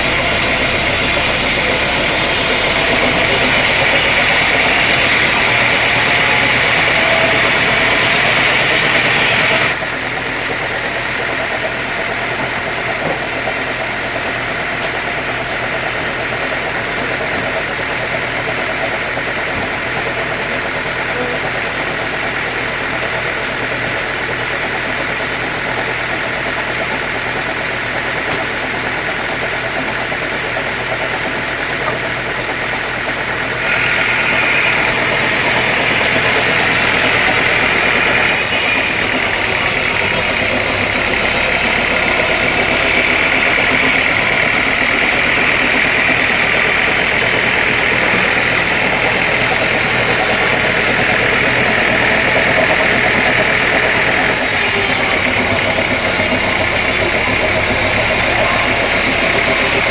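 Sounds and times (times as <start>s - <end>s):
high machine whine: 0.0s - 59.9s
sawmill machinery hum: 0.0s - 59.9s.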